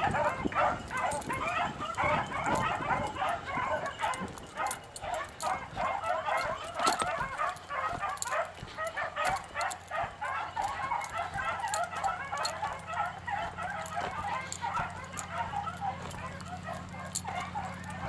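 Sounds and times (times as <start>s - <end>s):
beagles baying: 0.0s - 18.0s.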